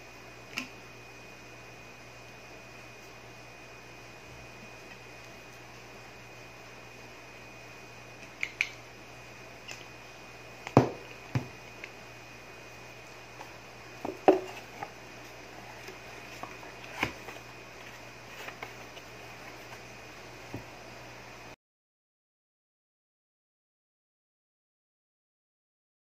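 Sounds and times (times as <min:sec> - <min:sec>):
steady faint hum: 0:00.0 - 0:21.6.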